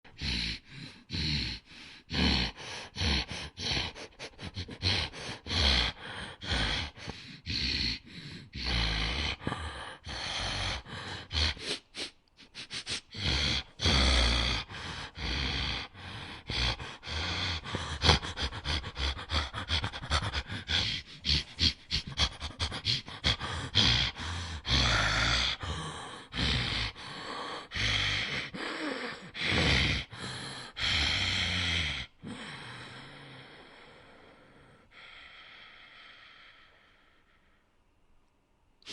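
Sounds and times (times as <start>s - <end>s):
rapid breaths and sniffs: 0.1s - 37.5s.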